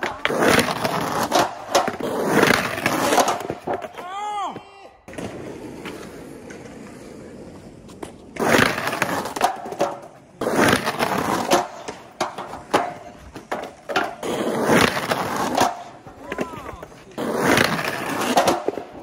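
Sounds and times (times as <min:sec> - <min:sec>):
skateboard clacks: 0:00.0 - 0:19.0
skateboard trucks scraping curb: 0:00.0 - 0:19.0
skateboard wheels rolling on concrete: 0:00.0 - 0:19.0.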